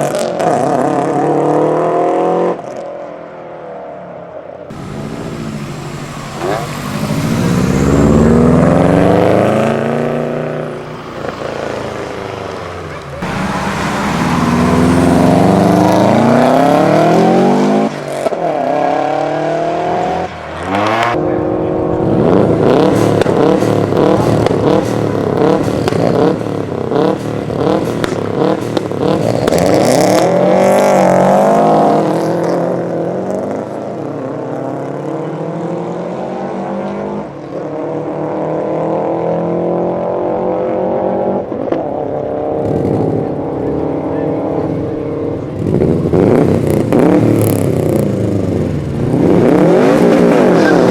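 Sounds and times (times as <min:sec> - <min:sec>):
car engines revving and pulling away: 0:00.0 - 0:50.9.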